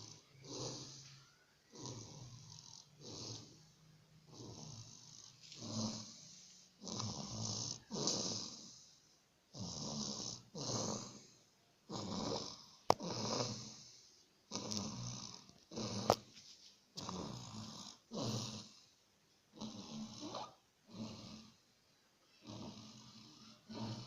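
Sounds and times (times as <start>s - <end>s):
person snoring: 0.0s - 16.3s, 17.0s - 18.9s, 19.5s - 21.6s, 22.4s - 24.0s.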